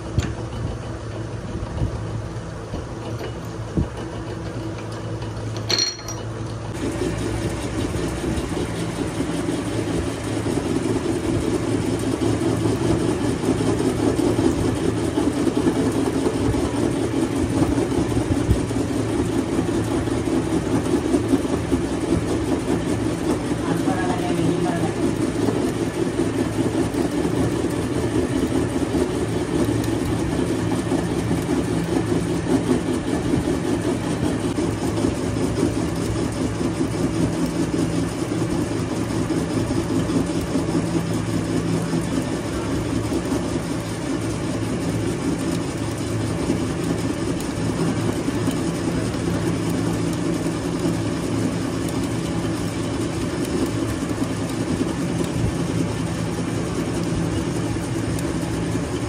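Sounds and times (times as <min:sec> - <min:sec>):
machine engine humming: 0:00.0 - 0:59.0.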